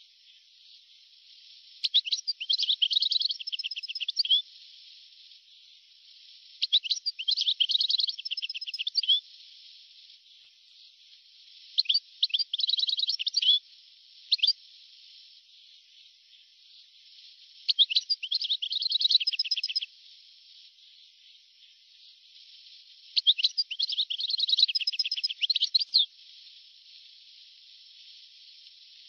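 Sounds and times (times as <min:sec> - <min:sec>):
faint steady hiss: 0:00.0 - 0:29.0
bird twittering and trilling: 0:00.6 - 0:13.6, 0:14.2 - 0:19.9, 0:20.6 - 0:26.1.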